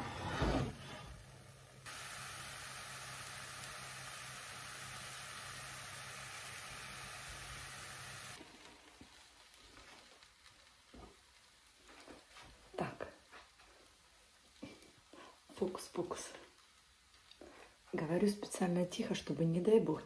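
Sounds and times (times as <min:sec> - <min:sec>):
pancake sizzling in frying pan: 0:01.0 - 0:19.6.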